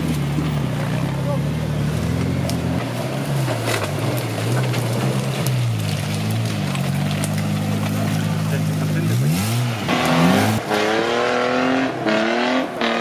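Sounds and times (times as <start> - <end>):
off-road engine at low revs: 0.0 - 13.0.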